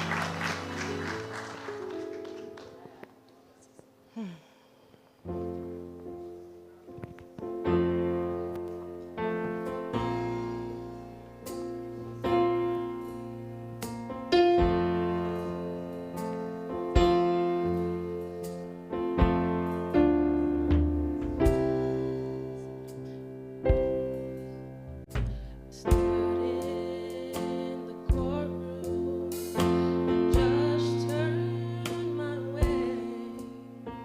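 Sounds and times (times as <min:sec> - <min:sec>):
slow gentle piano chords: 0:00.0 - 0:34.0.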